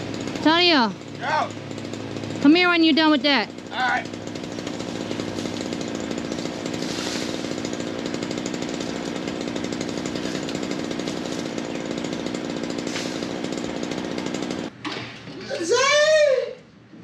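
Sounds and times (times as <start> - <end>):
chainsaw running: 0.0 - 14.8.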